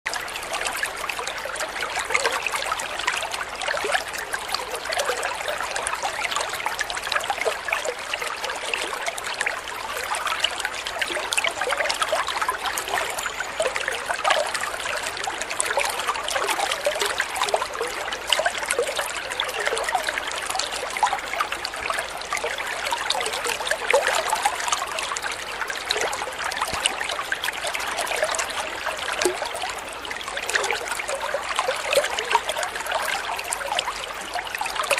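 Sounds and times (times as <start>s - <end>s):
stream babbling: 0.1s - 34.9s.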